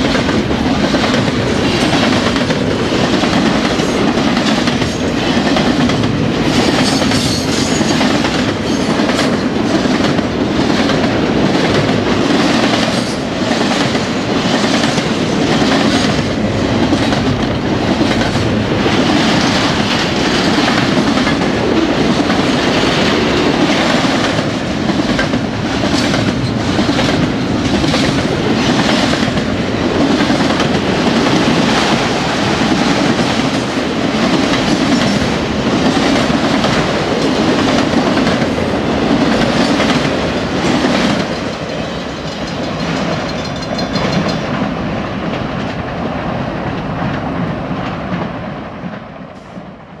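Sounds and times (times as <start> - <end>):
train wheels clacking on rail joints: 0.0 - 45.8
train rumble: 0.0 - 50.0.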